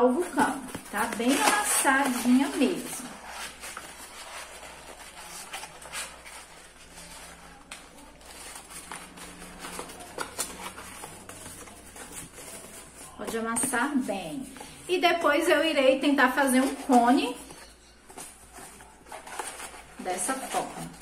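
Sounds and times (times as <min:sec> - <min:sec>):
cardboard crumpling: 0:00.2 - 0:13.4, 0:16.6 - 0:21.0.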